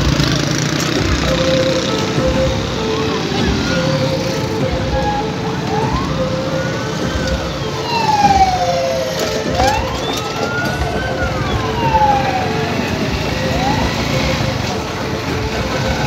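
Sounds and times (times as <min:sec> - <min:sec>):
street traffic rumble: 0:00.0 - 0:16.0
siren wailing: 0:01.0 - 0:16.0.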